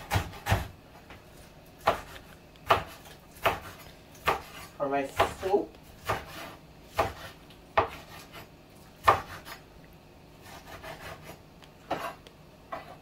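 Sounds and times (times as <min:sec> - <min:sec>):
knife chopping on wooden board: 0:00.0 - 0:01.1, 0:01.8 - 0:09.6, 0:10.4 - 0:13.0.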